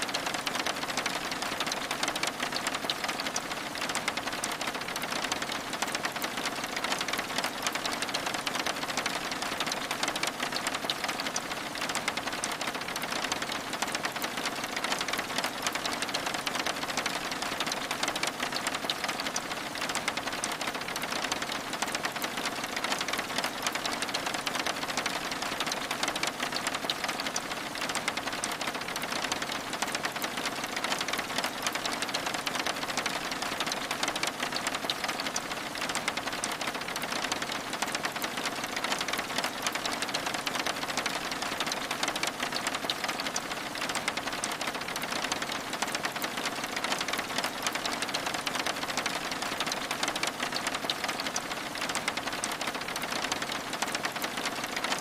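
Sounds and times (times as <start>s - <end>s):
rain pattering on window glass: 0.0s - 55.0s.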